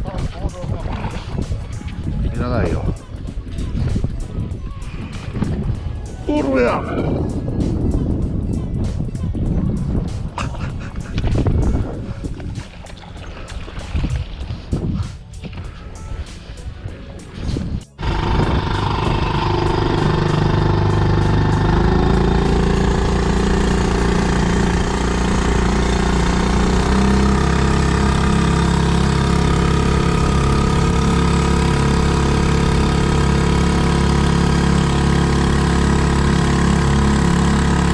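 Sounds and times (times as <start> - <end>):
outboard motor running: 0.0 - 37.9.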